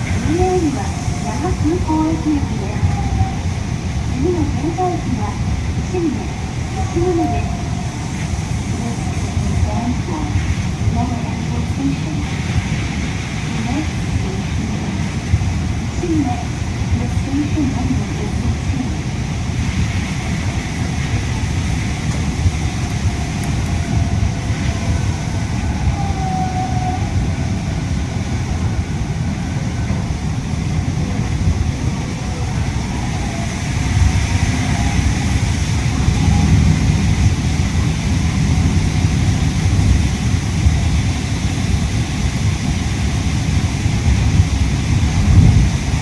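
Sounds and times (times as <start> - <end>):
air-conditioning noise: 0.0 - 46.0
faint whine: 0.0 - 46.0
monorail low rumble: 0.0 - 46.0.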